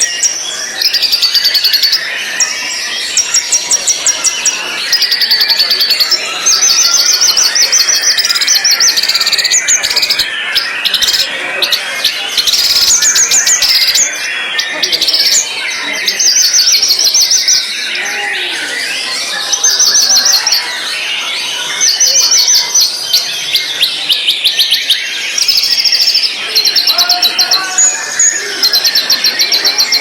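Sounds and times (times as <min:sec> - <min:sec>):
bird singing warbled song: 0:00.0 - 0:30.0.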